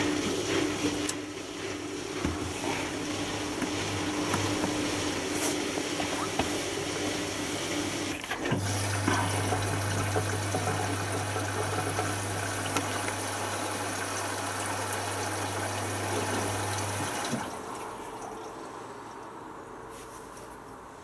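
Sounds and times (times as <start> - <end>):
washing machine running water: 0.0 - 19.4.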